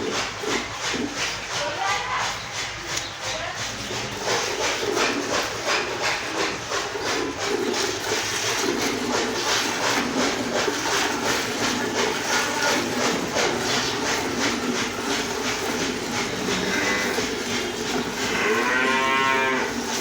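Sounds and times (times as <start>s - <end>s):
milk squirting into a pail: 0.0s - 18.6s.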